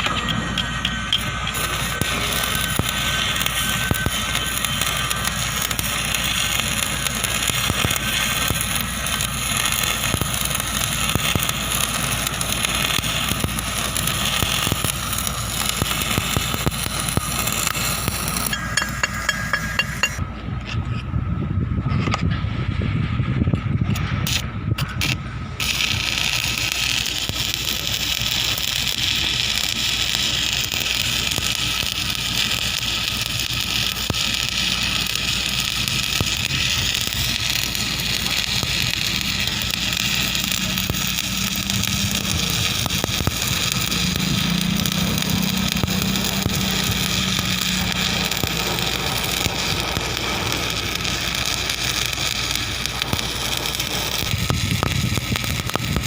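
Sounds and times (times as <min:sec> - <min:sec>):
welding arc crackling: 0:00.0 - 0:20.2, 0:23.5 - 0:56.0
steady hum: 0:00.0 - 0:56.0.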